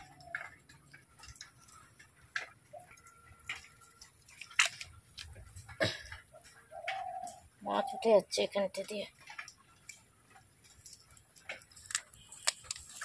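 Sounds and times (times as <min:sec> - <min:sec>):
sharp clicks and light knocks: 0:00.0 - 0:07.4, 0:08.7 - 0:13.0.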